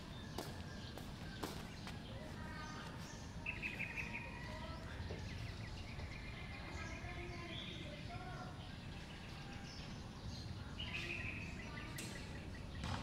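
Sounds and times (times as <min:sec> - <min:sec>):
low outdoor background noise: 0:00.0 - 0:13.0
small birds chirping: 0:00.0 - 0:13.0.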